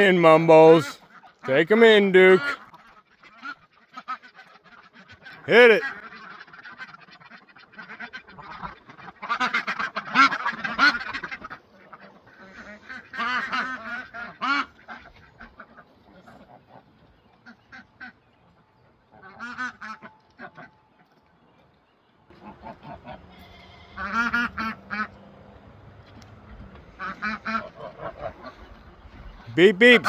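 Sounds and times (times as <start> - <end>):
geese honking: 0.0 - 18.2, 19.1 - 20.8, 22.3 - 30.0
ducks quacking: 0.0 - 18.5, 19.1 - 20.8, 22.3 - 25.7, 26.3 - 30.0.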